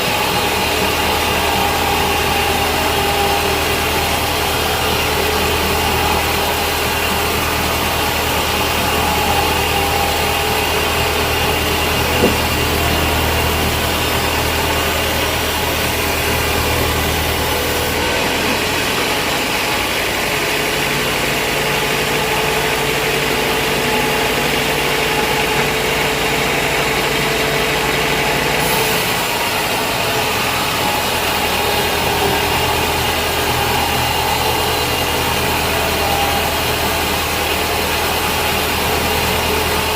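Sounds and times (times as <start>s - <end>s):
band saw running: 0.0s - 39.9s
low machine hum: 0.0s - 39.9s.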